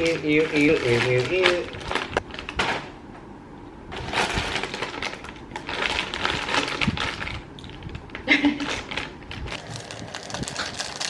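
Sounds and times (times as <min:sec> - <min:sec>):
plastic snack bag crinkling: 0:00.0 - 0:02.7, 0:04.1 - 0:11.0.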